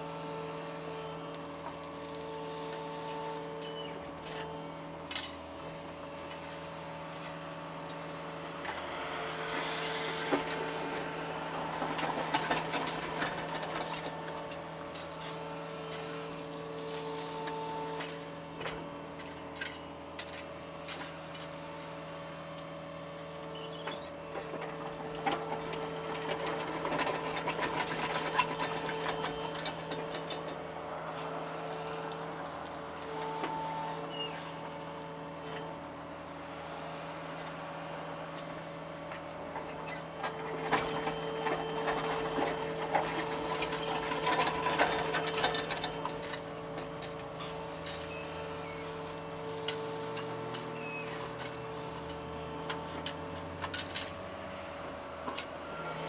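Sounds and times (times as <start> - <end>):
excavator engine humming: 0.0 - 56.0.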